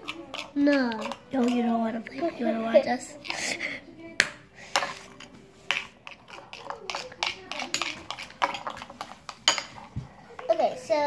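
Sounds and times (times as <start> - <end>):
utensil scraping a bowl: 0.0 - 3.8, 4.6 - 10.6.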